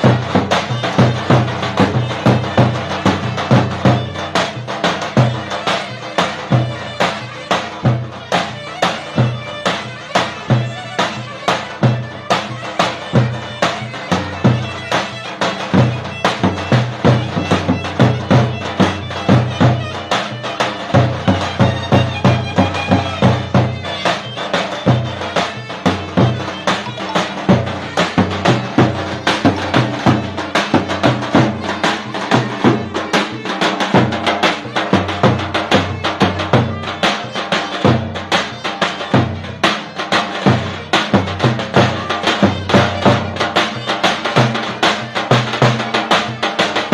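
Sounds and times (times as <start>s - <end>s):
heavy drum beats: 0.0s - 46.9s
reedy wind instrument melody: 0.0s - 46.9s.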